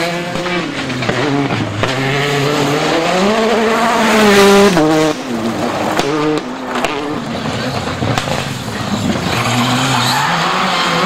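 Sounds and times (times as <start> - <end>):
rally car engine at full throttle: 0.0 - 11.0.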